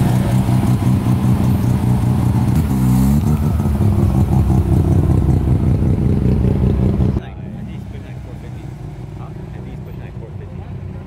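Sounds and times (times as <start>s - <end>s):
car engine passing slowly: 0.0s - 11.0s.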